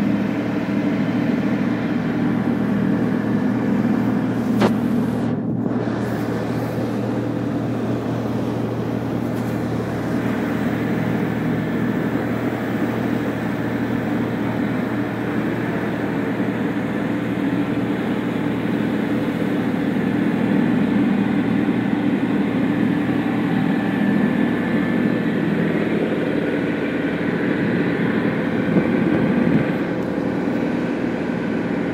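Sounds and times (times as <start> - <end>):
churning wake rushing: 0.0 - 31.9
motorboat engine drone: 0.0 - 31.9.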